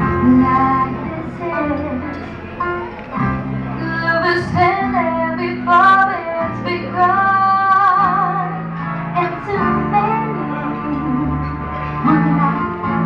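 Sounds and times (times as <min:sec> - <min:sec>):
woman singing a ballad: 0:00.0 - 0:02.3, 0:03.8 - 0:13.0
instrumental music: 0:00.0 - 0:13.0.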